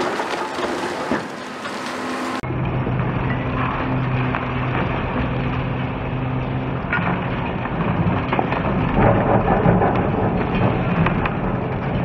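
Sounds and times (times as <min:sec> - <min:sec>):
concrete cracking and crunching: 0:00.0 - 0:02.4, 0:03.3 - 0:12.0
diesel engine under load: 0:00.0 - 0:12.0.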